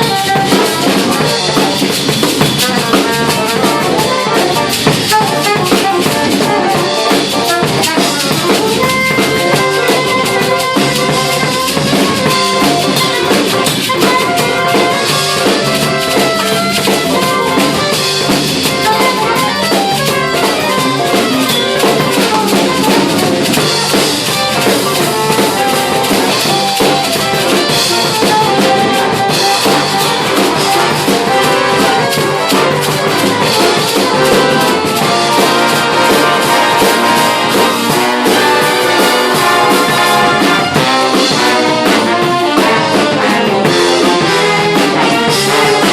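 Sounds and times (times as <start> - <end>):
brass section: 0.0 - 45.9
swinging drum kit with cymbals: 0.0 - 45.9.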